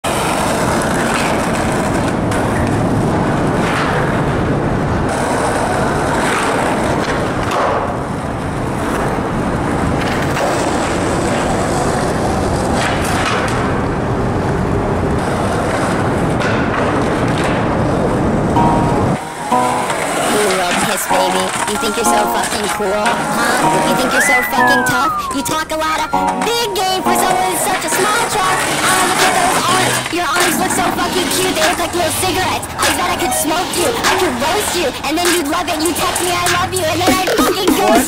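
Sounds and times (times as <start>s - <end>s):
skateboard wheels on asphalt: 0.0s - 37.0s
skateboard clacks: 0.1s - 38.0s.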